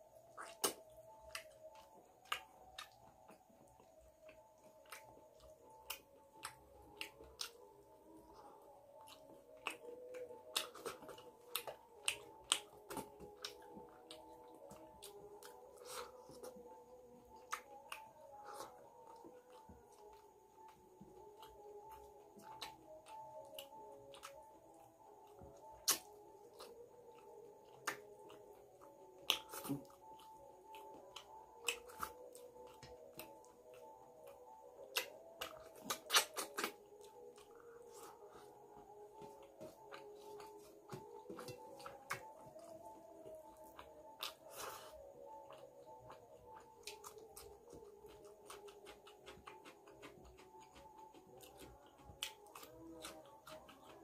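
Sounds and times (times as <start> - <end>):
faint steady hum: 0.0 - 54.0
wet chewing and lip-smacking: 0.2 - 54.0.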